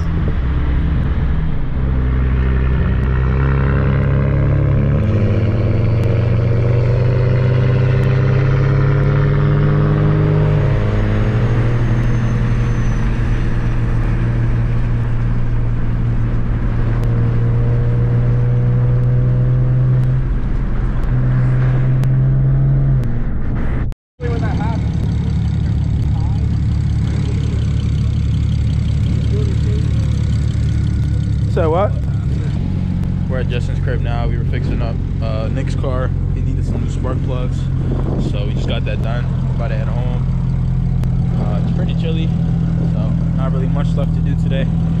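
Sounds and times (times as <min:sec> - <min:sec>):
car engines droning: 0:00.0 - 0:45.0.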